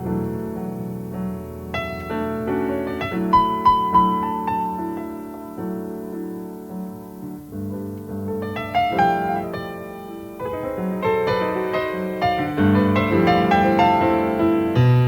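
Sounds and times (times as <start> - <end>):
jazz piano playing: 0.0 - 15.0.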